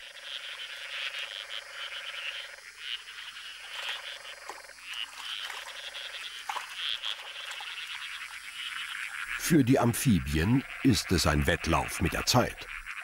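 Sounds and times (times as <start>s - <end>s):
frogs chorus high rattling calls: 0.0s - 13.0s.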